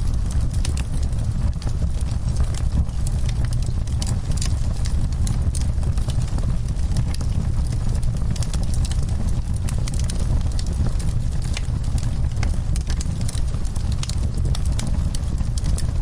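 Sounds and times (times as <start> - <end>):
low rumble of burning: 0.0 - 16.0
wood fire crackling: 0.0 - 16.0
sharp pops and snaps: 0.2 - 16.0.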